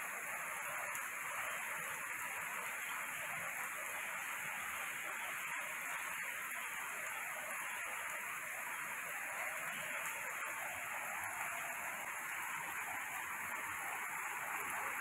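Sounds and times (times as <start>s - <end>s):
heavy rain on leaves: 0.0s - 15.0s.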